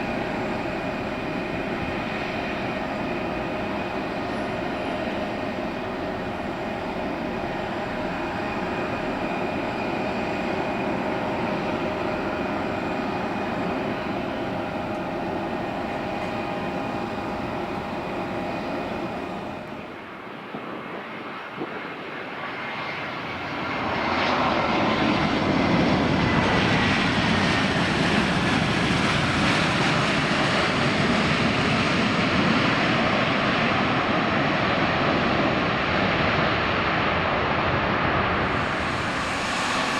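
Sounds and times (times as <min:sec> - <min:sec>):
airplane engines whining: 0:00.0 - 0:39.9.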